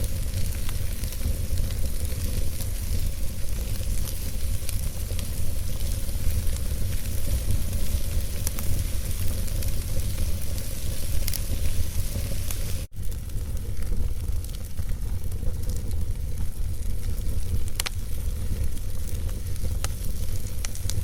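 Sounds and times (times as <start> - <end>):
logs crackling in fireplace: 0.0 - 21.0.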